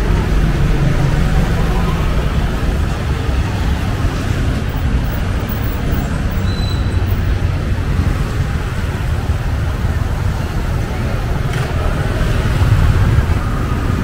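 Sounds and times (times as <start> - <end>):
faint voices: 0.0 - 14.0
street traffic: 0.0 - 14.0.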